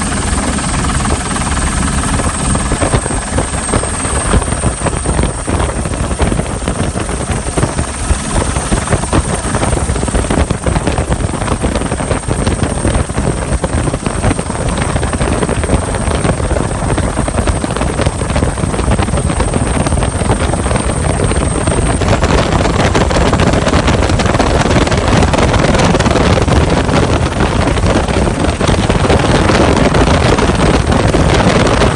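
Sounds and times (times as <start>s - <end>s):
helicopter rotor and turbine: 0.0s - 31.9s
wind rushing over microphone: 0.0s - 31.9s.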